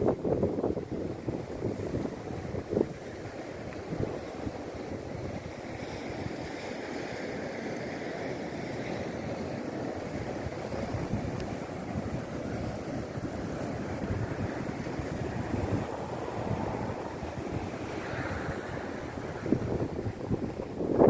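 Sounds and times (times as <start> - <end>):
wind buffeting microphone: 0.0 - 6.7, 8.9 - 21.0
sea waves washing onto shore: 0.1 - 21.0.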